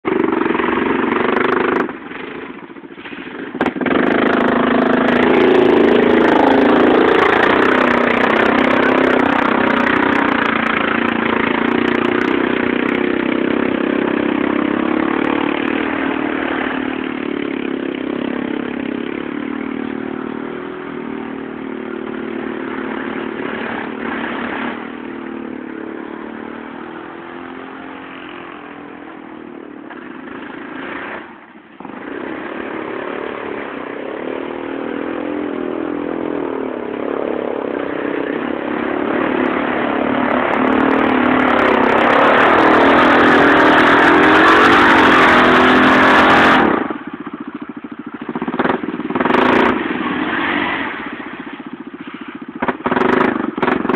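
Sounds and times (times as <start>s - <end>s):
atv engines revving: 0.0s - 53.9s.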